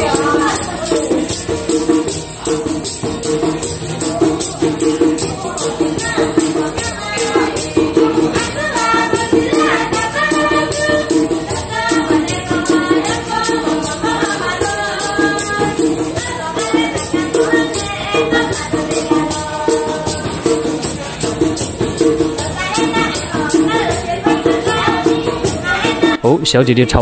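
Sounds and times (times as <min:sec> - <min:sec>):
women singing together: 0:00.0 - 0:26.2
shaken percussion beat: 0:00.0 - 0:26.3
guitar: 0:00.0 - 0:27.0.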